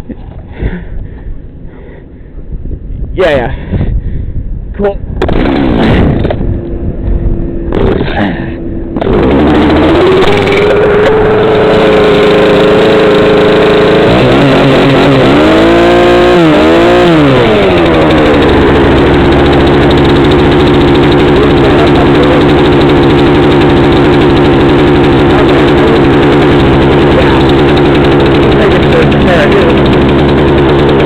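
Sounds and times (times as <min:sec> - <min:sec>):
engine running loudly: 0:05.2 - 0:31.0.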